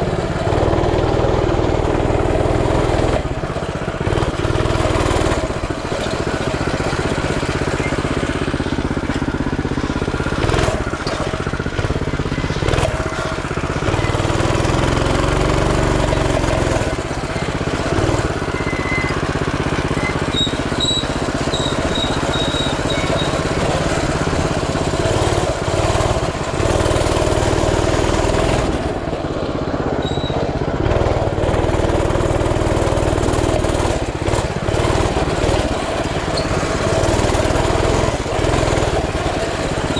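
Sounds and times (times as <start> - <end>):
mini bike engine revving: 0.0 - 39.9.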